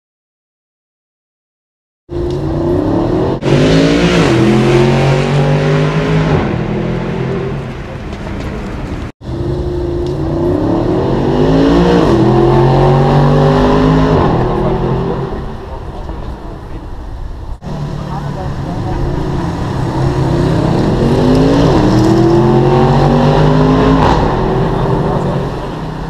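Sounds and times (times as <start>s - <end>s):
sports car accelerating hard: 2.2s - 7.9s, 9.2s - 16.0s, 17.6s - 26.0s.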